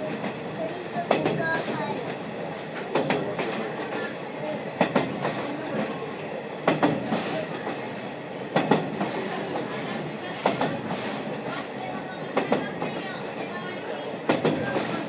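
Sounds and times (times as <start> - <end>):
steady train rolling rumble: 0.0 - 15.0
train wheels clacking over rail joints: 0.0 - 15.0.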